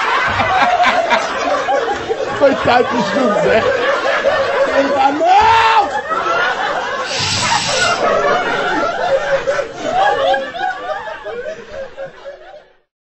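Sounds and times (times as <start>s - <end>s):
audience laughing: 0.0s - 12.9s.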